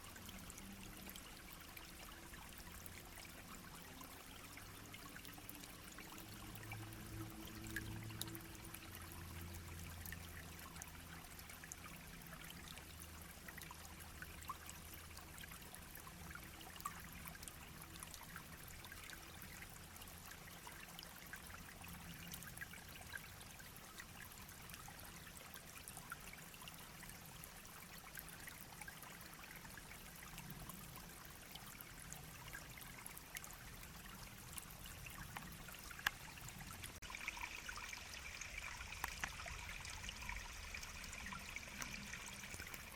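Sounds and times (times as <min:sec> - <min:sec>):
stream babbling over stones: 0:00.0 - 0:42.9.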